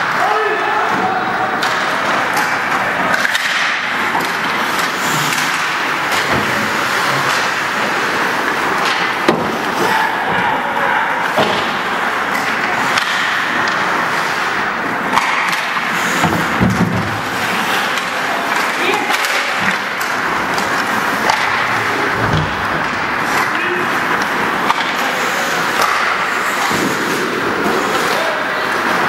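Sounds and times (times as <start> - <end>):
sharp knocks of sticks and puck: 0.9 - 10.5, 11.3 - 28.2
skates scraping on ice: 1.6 - 10.1, 11.6 - 29.0.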